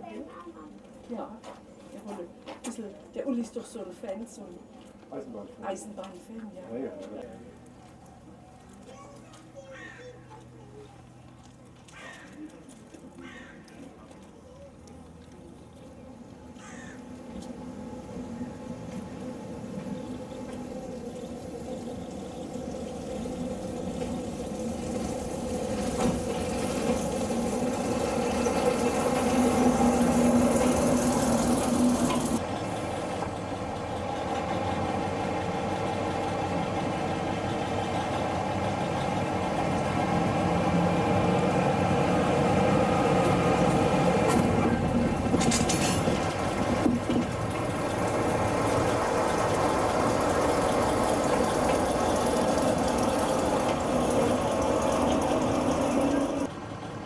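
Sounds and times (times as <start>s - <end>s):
diesel locomotive engine running: 0.0s - 57.0s.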